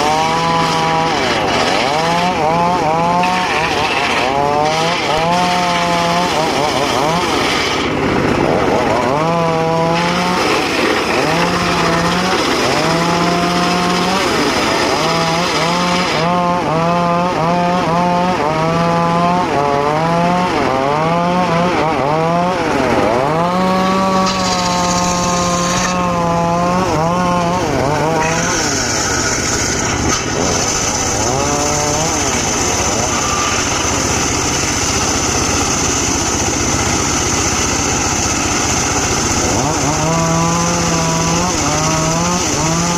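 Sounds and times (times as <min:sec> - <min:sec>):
sawmill cutting log: 0:00.0 - 0:42.9.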